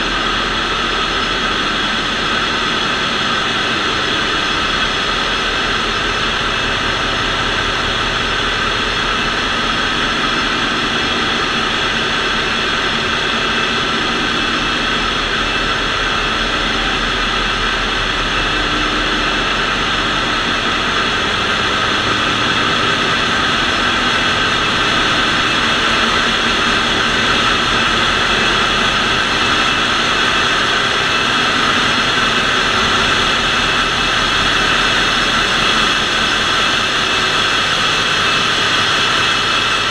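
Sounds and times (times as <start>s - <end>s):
engine room machinery din: 0.0s - 39.9s
steady whining tones: 0.0s - 39.9s.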